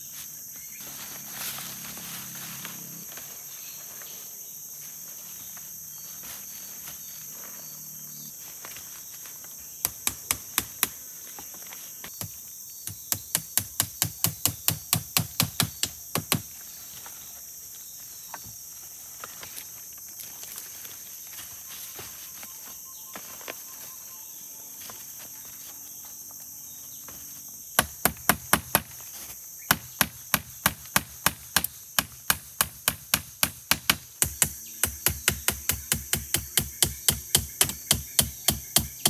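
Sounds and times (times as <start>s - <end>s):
insect chorus: 0.0s - 39.0s.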